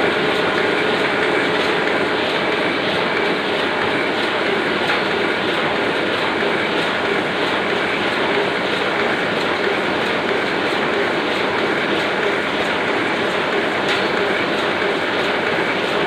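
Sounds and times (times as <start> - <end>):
printing press clattering: 0.0 - 16.0.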